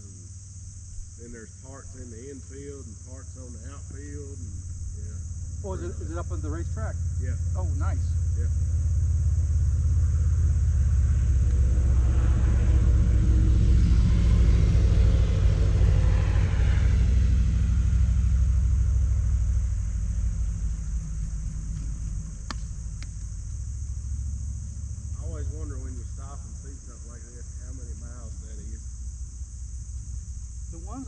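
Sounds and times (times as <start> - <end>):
vehicle engine passing by: 1.2 - 23.0, 23.6 - 29.5.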